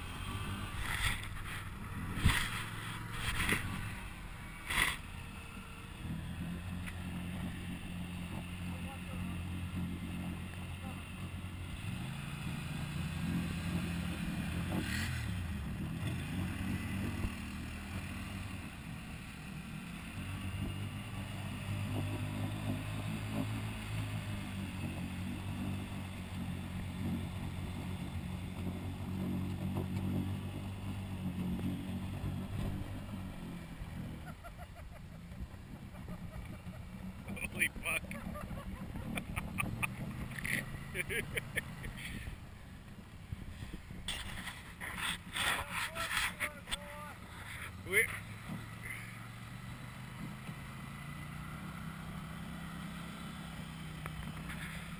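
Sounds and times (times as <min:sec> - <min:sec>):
quad engine revving: 0:00.0 - 0:42.4, 0:44.0 - 0:54.9.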